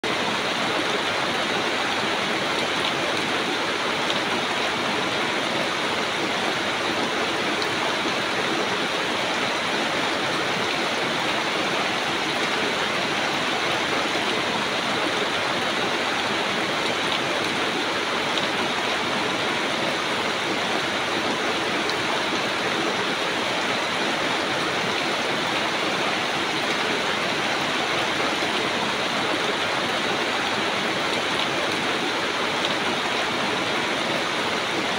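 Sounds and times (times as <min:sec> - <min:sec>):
rain on broad leaves: 0:00.0 - 0:34.9.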